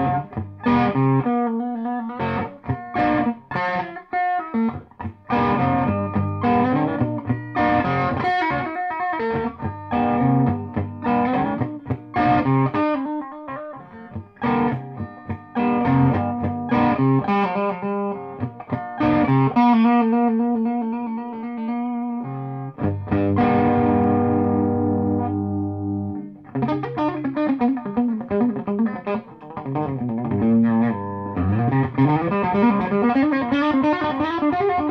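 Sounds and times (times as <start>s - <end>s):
electric guitar notes and chords: 0.0s - 34.9s.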